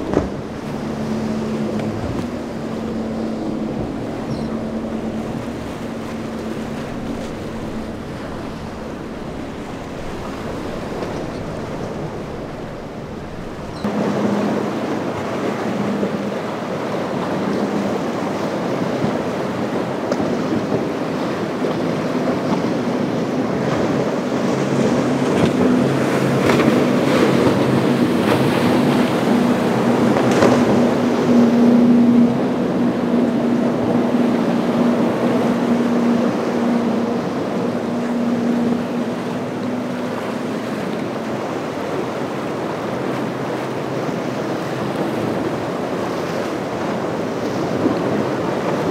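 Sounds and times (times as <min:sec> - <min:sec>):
outboard engines droning: 0:00.0 - 0:48.9
waves breaking: 0:00.0 - 0:48.9
wind on microphone: 0:00.0 - 0:48.9.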